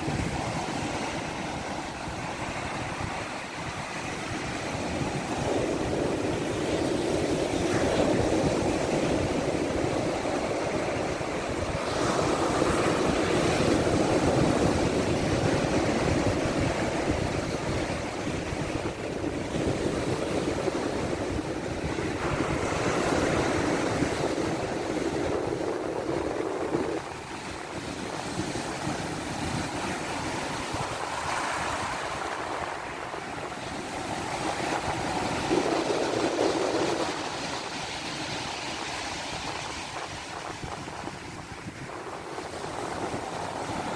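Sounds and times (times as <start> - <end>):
waves washing ashore: 0.0 - 43.9
wind rumbling on microphone: 0.0 - 43.9.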